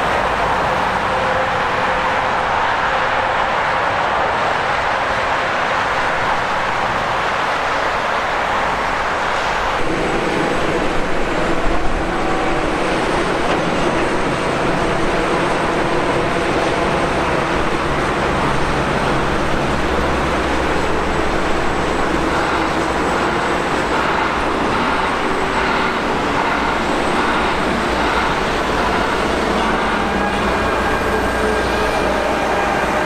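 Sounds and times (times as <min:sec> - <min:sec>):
highway traffic passing: 0:00.0 - 0:33.0.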